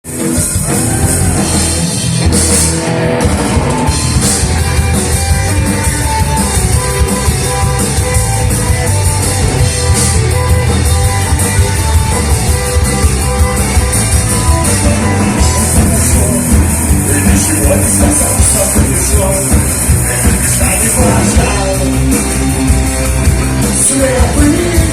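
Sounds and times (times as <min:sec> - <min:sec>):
electric guitar: 0:00.0 - 0:24.9
drum kit beating: 0:00.1 - 0:24.9.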